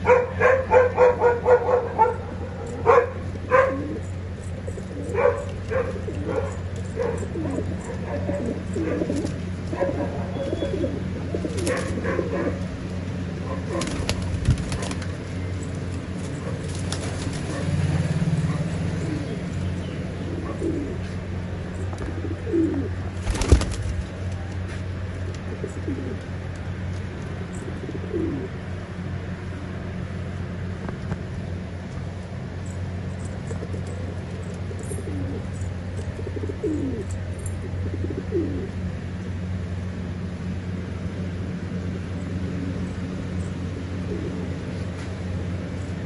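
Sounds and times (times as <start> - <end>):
pigeons cooing: 0.0 - 23.9, 25.0 - 28.7, 33.3 - 39.5, 41.9 - 46.0
steady low hum: 0.0 - 46.0.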